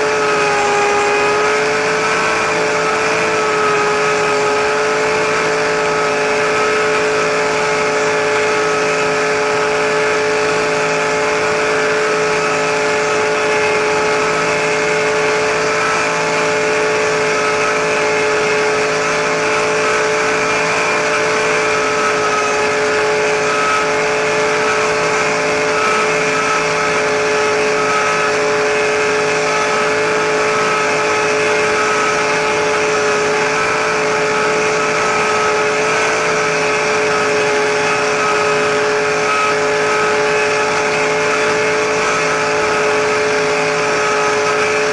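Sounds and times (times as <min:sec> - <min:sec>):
helicopter motor whine: 0:00.0 - 0:44.9.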